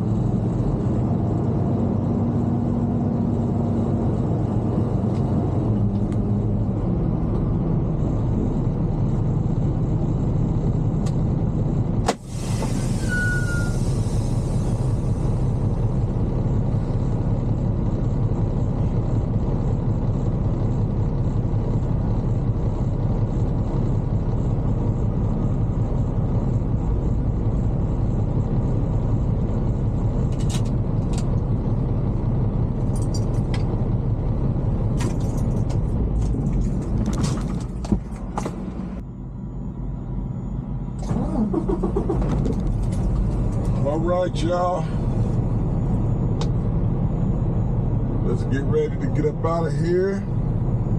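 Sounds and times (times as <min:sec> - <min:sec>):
truck engine rumble: 0:00.0 - 0:50.9.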